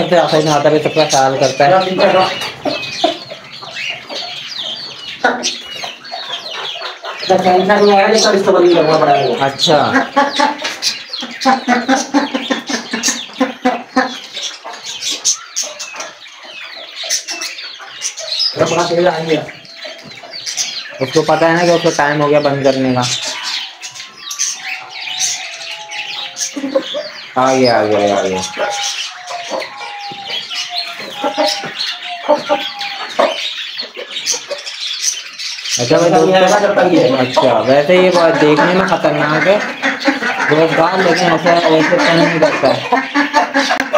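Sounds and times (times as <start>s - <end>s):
chicken clucking: 0.0s - 43.9s
small birds chirping: 0.0s - 43.9s.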